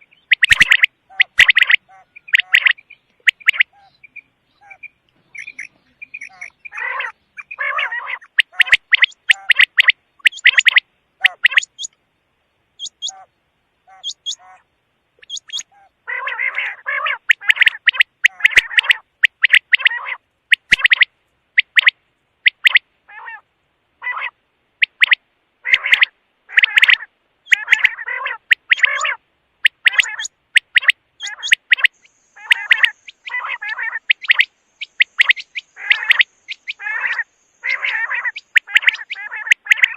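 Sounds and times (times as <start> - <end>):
quail calling: 0.0 - 12.0, 12.8 - 39.9.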